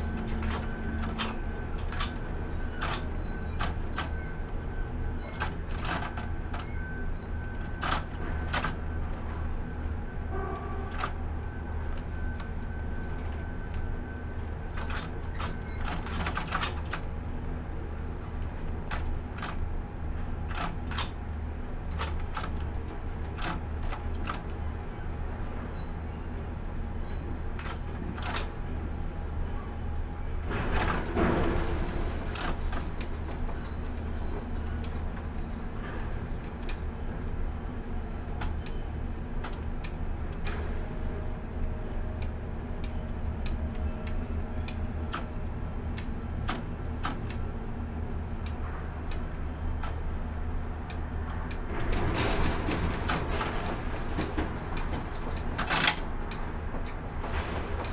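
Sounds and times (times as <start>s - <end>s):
crane machinery hum: 0.0s - 57.9s.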